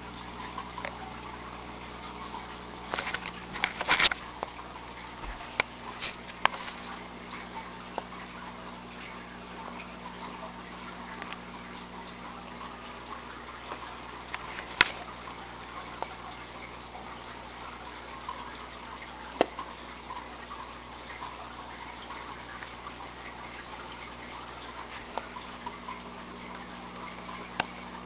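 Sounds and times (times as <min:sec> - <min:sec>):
aquarium water running: 0:00.0 - 0:28.0.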